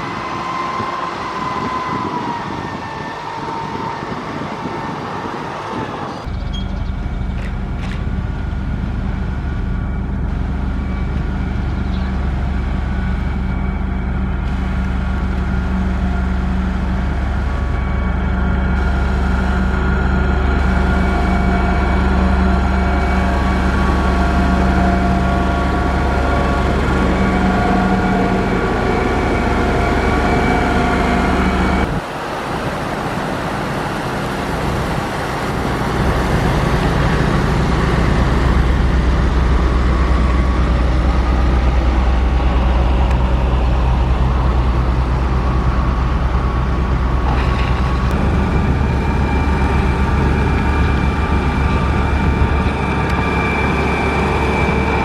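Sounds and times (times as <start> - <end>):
heavy diesel engine running: 0.0 - 55.0
whining tones: 0.0 - 55.0.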